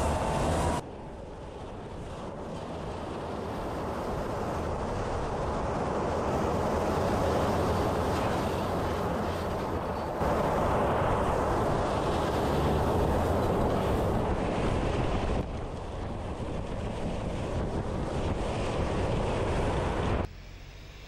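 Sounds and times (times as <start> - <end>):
engine running: 0.0 - 21.0
tyres spinning and spraying gravel: 1.4 - 20.2.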